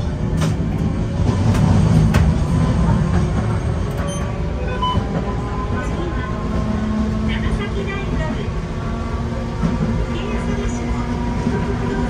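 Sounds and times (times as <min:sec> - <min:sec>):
streetcar rumbling on tracks: 0:00.0 - 0:12.0.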